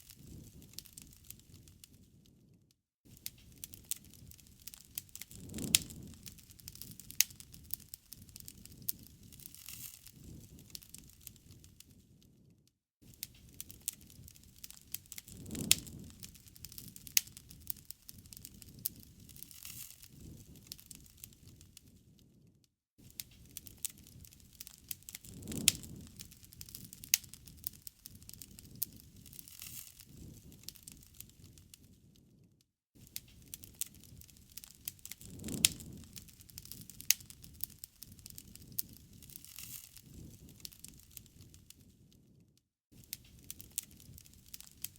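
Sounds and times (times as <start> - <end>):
wood fire crackling: 0.0 - 42.4, 43.0 - 44.9
low noise of flames: 0.0 - 44.9.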